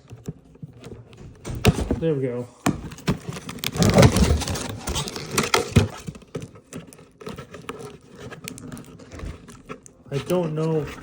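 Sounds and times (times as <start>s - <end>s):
packaging rustling: 0.0s - 11.0s.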